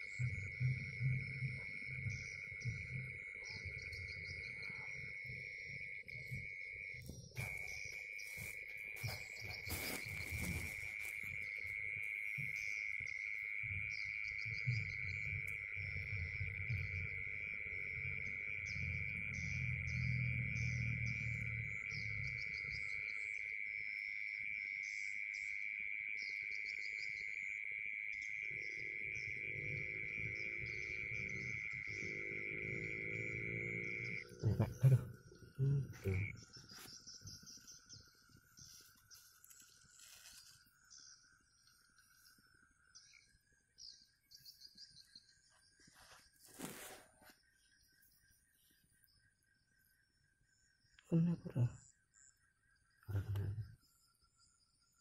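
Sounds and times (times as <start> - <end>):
insects pulsed chirping: 0.0 - 55.0
insects trilling: 0.0 - 55.0.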